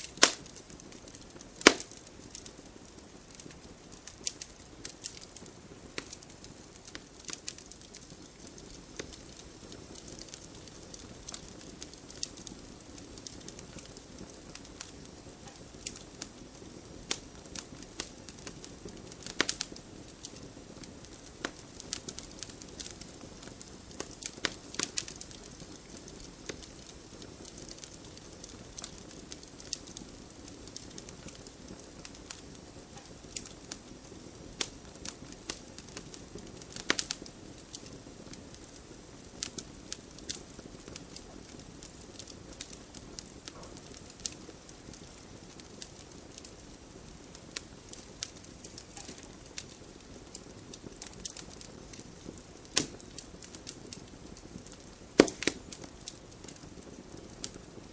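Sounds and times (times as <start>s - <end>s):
fire pops and snaps: 0.0s - 57.9s
wood fire crackling: 0.0s - 57.9s.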